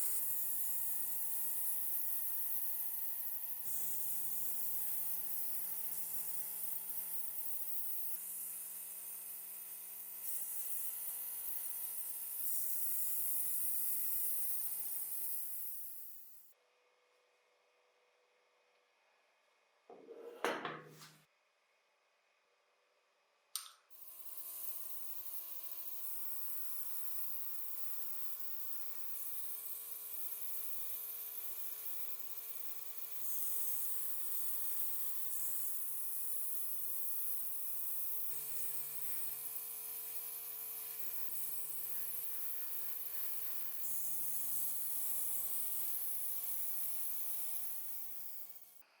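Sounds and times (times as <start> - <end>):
small electric motor whining: 0.0 - 16.6, 23.9 - 48.9.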